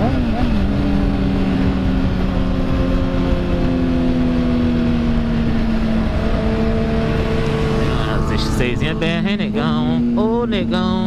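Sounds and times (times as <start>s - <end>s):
low wind rumble: 0.0s - 11.0s
motorcycle engine running: 0.0s - 11.0s.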